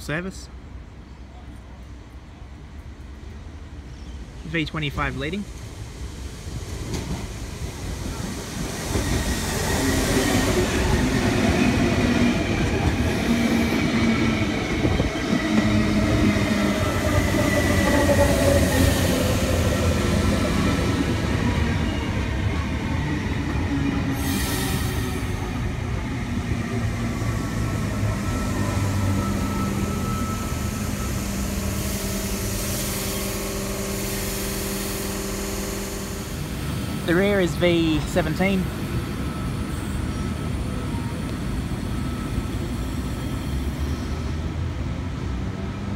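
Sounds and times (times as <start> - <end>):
train humming: 0.0 - 45.9
train wheels rumbling on rails: 2.7 - 45.9
train braking whine: 6.6 - 44.6.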